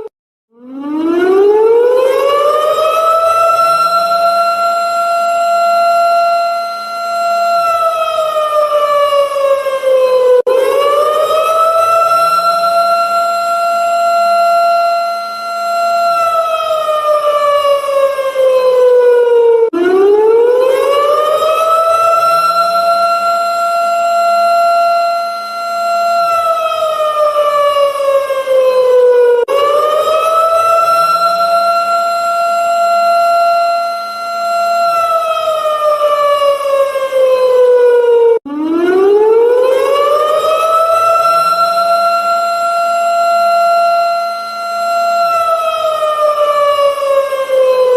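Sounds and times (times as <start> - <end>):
alarm siren sliding in pitch: 0.0 - 47.9.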